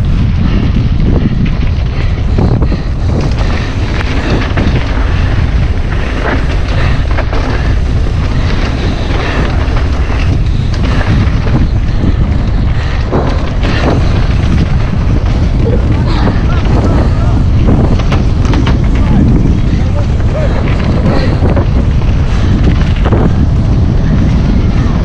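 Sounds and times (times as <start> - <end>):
bike rattling: 0.0 - 25.0
tyres rolling over dirt and rock: 0.0 - 25.0
wind buffeting microphone: 0.0 - 25.0.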